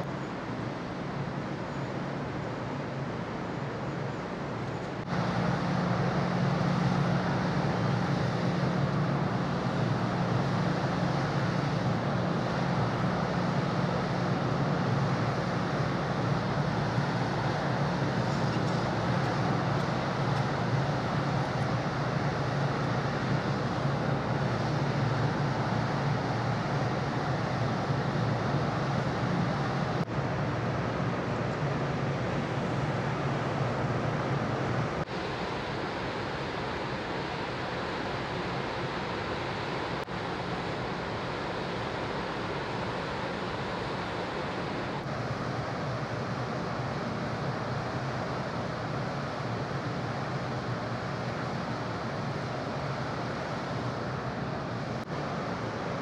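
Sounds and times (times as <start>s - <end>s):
ship engines droning: 0.0s - 56.0s
water rushing: 0.0s - 56.0s.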